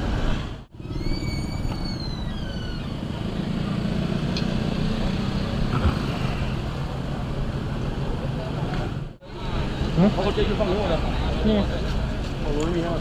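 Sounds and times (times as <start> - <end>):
highway traffic noise: 0.0 - 13.0.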